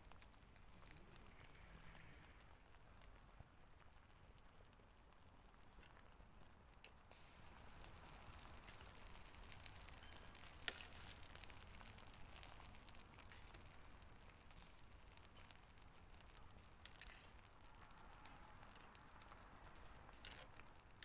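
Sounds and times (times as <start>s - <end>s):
sizzling and crackling cooking: 0.0s - 21.0s.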